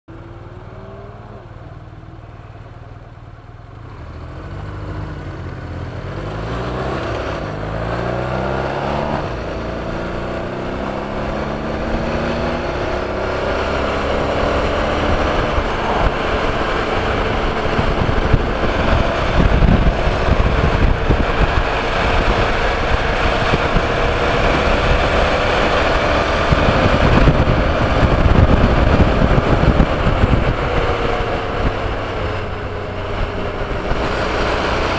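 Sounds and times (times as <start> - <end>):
motorcycle engine accelerating: 0.1 - 34.9
wind buffeting microphone: 5.7 - 34.9.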